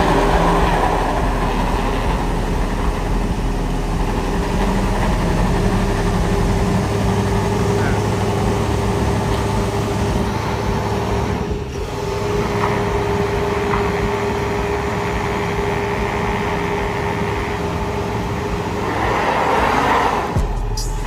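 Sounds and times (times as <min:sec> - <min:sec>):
road noise: 0:00.0 - 0:21.0
vehicle engine humming: 0:00.0 - 0:21.0.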